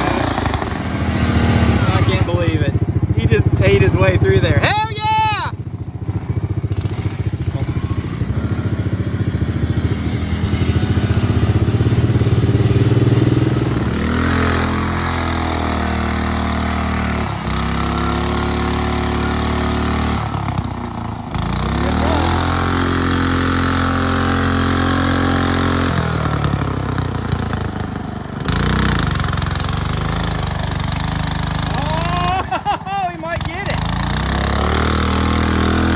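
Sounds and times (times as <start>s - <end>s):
small engine revving: 0.0s - 35.9s.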